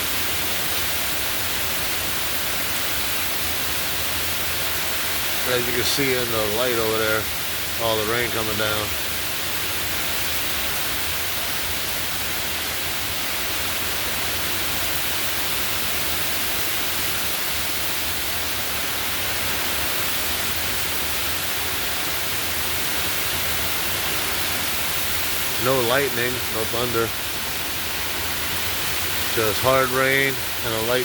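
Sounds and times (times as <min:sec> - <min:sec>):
hard rain pouring: 0:00.0 - 0:31.0.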